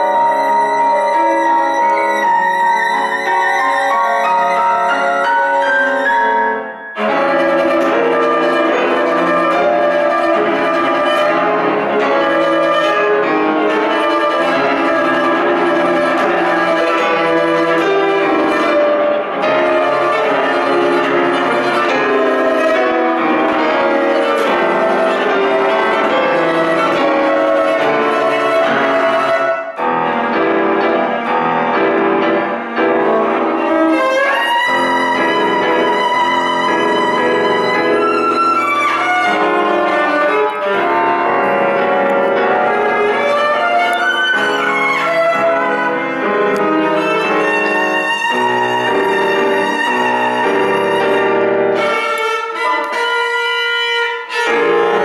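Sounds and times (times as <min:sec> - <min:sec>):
bowed viola: 0:00.0 - 0:55.0
piano chords: 0:00.0 - 0:55.0.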